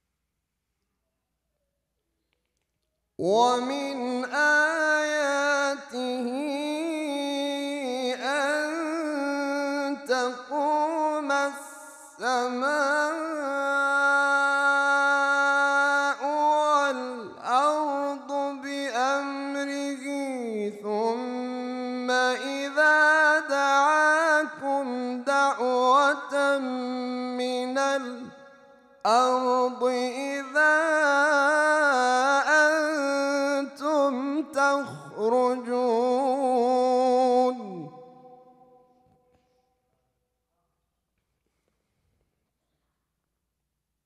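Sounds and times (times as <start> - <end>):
man reciting melodically: 3.1 - 39.2.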